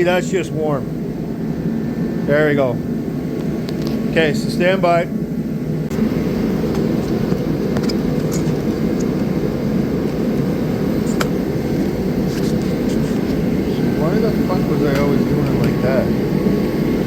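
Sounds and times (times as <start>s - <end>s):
heater fan blowing: 0.0s - 17.0s.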